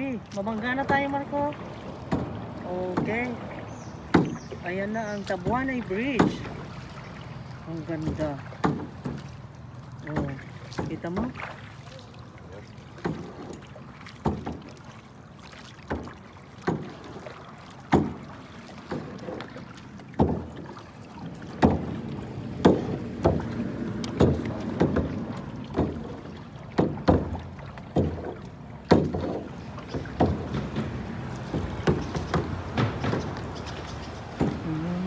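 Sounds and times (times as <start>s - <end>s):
paddle splashing into water: 0.0s - 35.0s
water noise: 0.0s - 35.0s.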